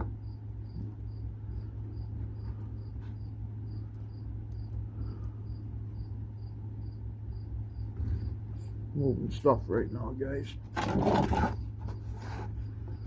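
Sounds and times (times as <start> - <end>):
cricket chirping: 0.0 - 13.0
low hum: 0.0 - 13.0.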